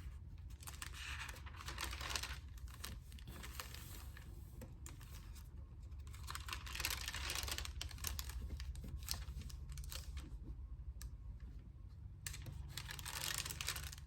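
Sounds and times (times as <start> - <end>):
steady low hum: 0.0 - 14.0
paper pages turning and rustling: 0.2 - 10.7, 12.2 - 14.0.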